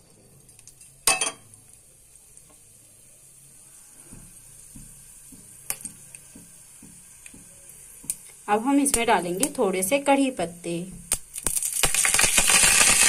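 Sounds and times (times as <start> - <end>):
seeds sizzling in hot oil: 0.0 - 13.0.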